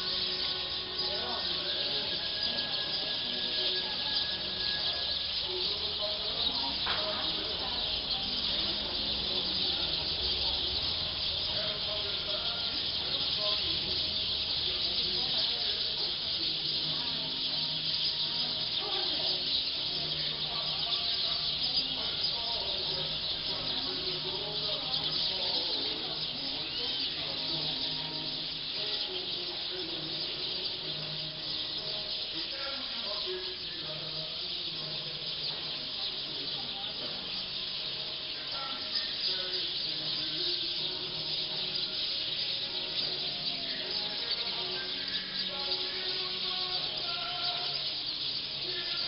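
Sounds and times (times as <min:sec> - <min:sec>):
flock of birds chattering: 0:00.0 - 0:49.0.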